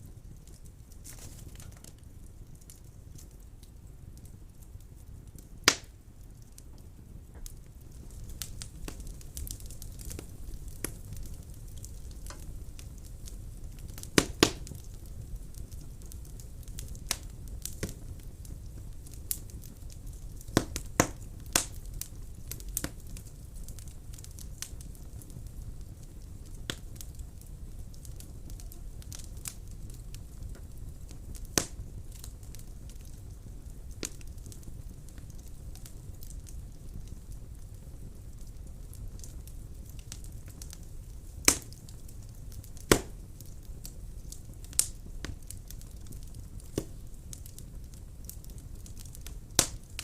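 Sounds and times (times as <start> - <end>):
fire crackling: 0.0 - 50.0.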